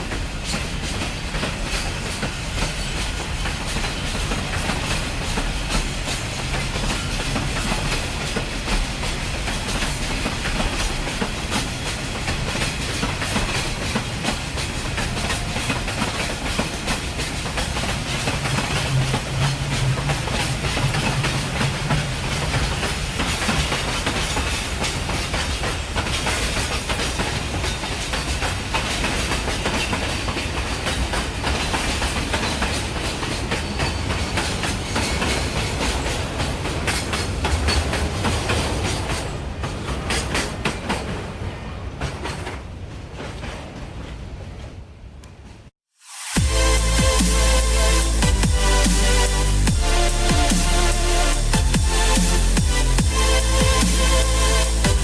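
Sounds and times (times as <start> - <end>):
train wheels clattering on rails: 0.0 - 45.7.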